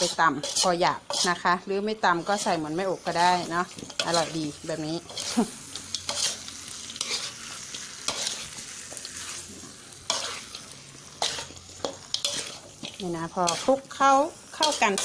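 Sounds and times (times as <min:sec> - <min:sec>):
food sizzling in a pot: 0:00.0 - 0:15.0
utensil scraping a pot: 0:00.0 - 0:15.0.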